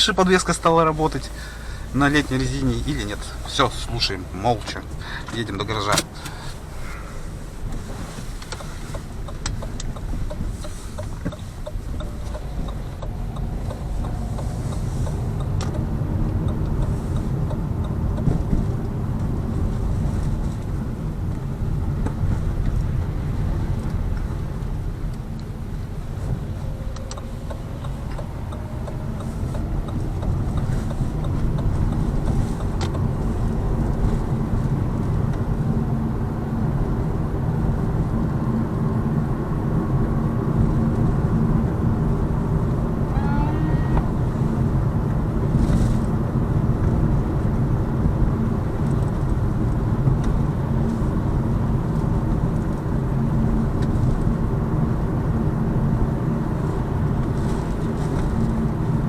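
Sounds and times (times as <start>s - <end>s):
car engine: 0.0s - 59.0s
tyre and road rumble: 0.0s - 59.0s.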